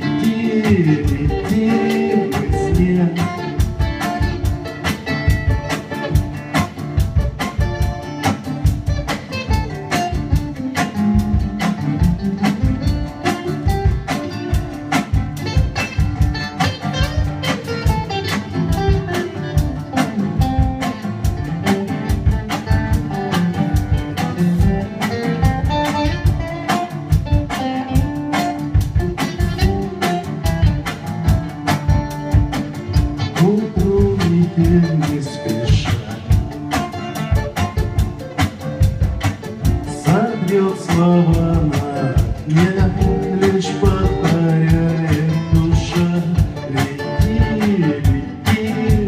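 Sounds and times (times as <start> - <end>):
guitar: 0.0 - 49.0
steady drum beat: 0.0 - 49.0.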